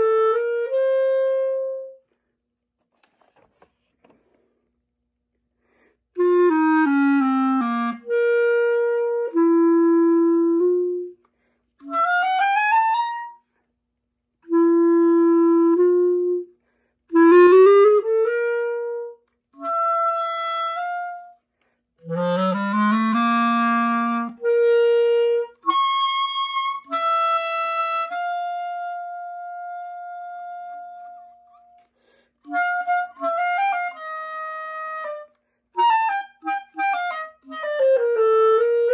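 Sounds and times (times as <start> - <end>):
solo clarinet playing: 0.0 - 2.1, 6.1 - 13.6, 14.4 - 38.9.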